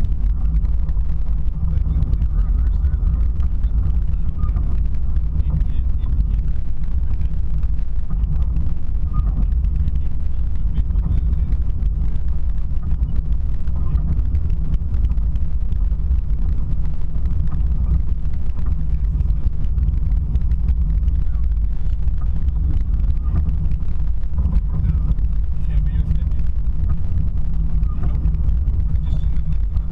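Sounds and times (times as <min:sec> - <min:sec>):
car engine and road noise: 0:00.0 - 0:29.9.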